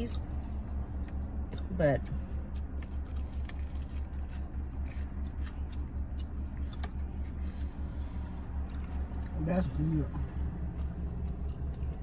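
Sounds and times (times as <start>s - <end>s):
low pulsing hum: 0.0s - 12.0s
person chewing: 0.6s - 9.4s, 10.1s - 12.0s.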